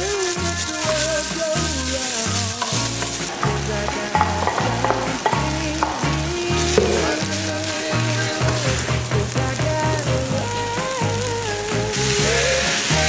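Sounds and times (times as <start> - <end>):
background music with bass line: 0.0 - 13.0
food sizzling in a pan: 0.0 - 13.0
utensil clicking against pan: 0.2 - 12.1.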